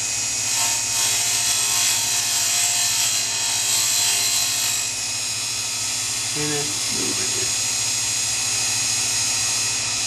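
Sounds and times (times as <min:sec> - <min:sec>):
grinder humming: 0:00.0 - 0:10.0.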